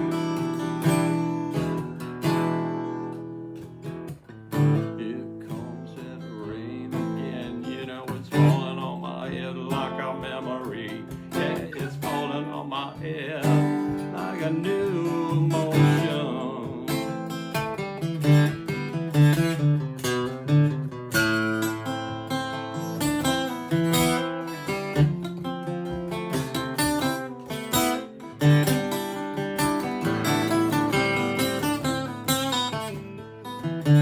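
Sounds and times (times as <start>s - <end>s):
acoustic guitar music: 0.0s - 34.0s.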